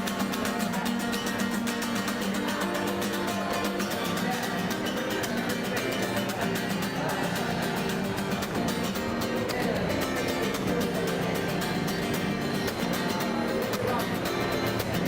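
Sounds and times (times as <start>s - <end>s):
strummed guitar music: 0.0s - 15.0s.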